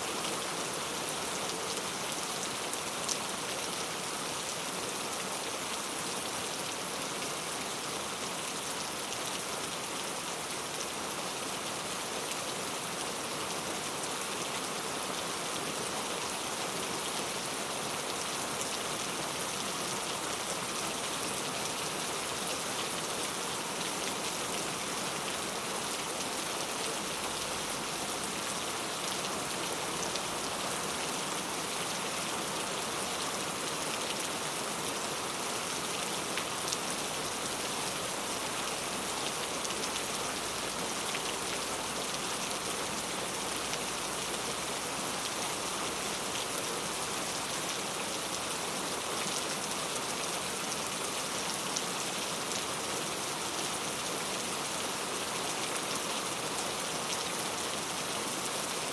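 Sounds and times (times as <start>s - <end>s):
heavy rain on hard surfaces: 0.0s - 58.9s.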